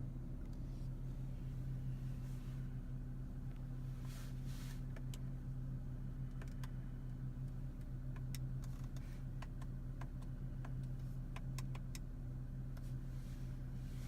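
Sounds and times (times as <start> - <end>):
low hum inside car: 0.0 - 14.0.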